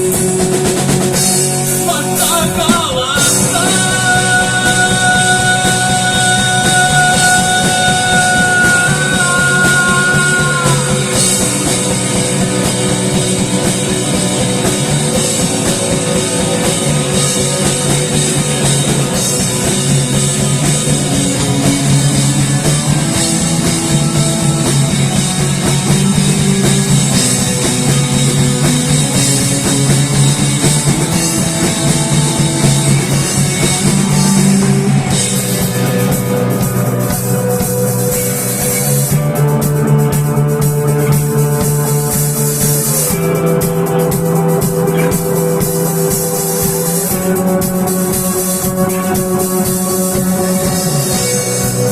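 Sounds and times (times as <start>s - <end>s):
instrumental rock music: 0.0s - 51.9s.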